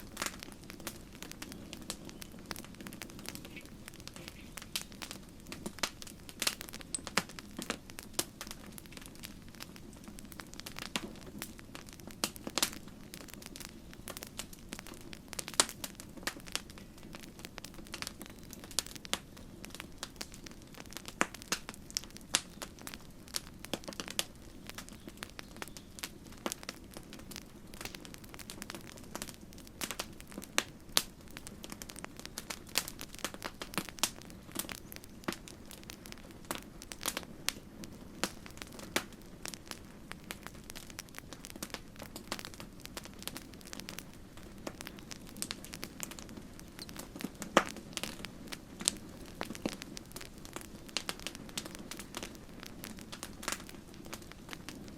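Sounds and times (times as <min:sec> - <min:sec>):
campfire popping and snapping: 0:00.0 - 0:54.9
low rush of burning fire: 0:00.0 - 0:54.9.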